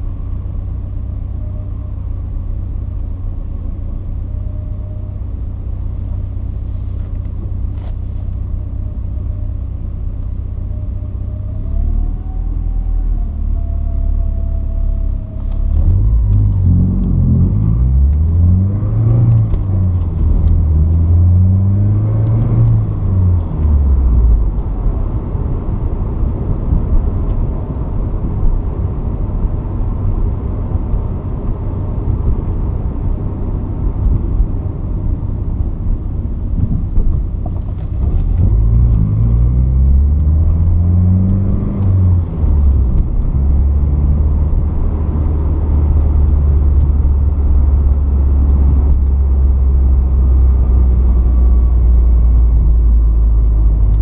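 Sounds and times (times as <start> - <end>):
car engine shifting through gears: 0.0 - 54.0.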